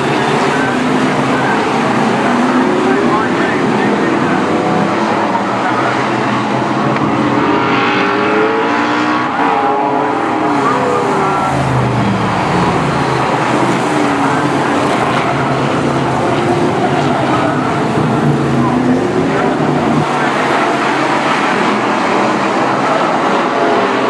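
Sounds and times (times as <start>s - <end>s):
racing car engines revving: 0.0s - 24.0s.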